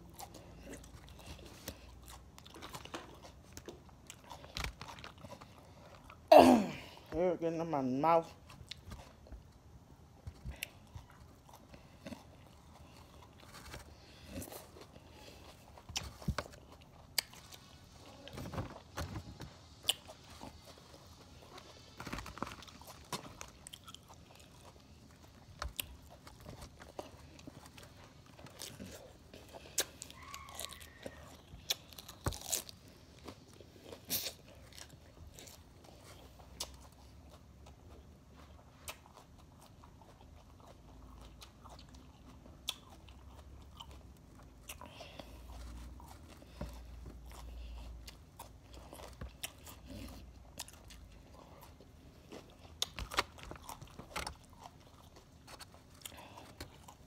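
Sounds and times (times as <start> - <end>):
chewing and crunching salad: 0.0 - 57.0.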